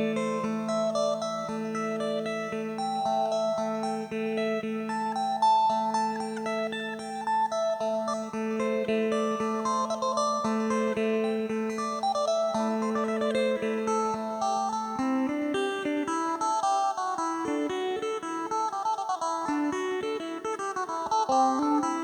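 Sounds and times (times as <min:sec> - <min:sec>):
plucked electric lute melody: 0:00.0 - 0:22.0.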